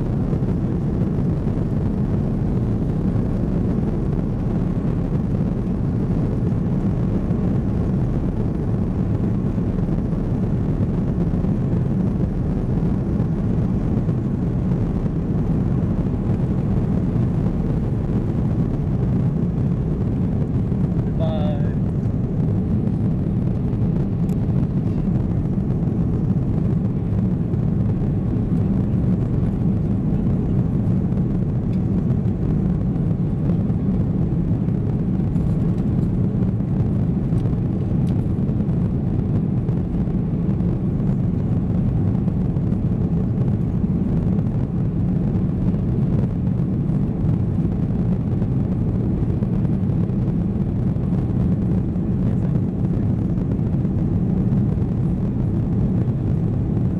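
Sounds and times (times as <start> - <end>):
airplane cabin engine rumble: 0.0 - 56.9.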